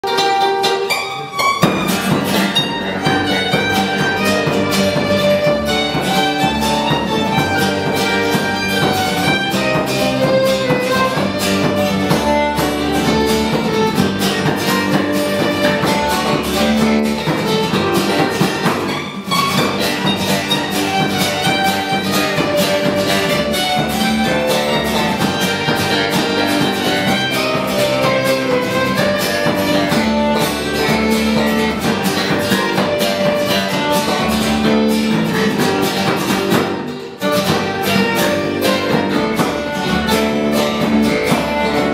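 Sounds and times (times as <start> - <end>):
folk march by string band: 0.0 - 41.9.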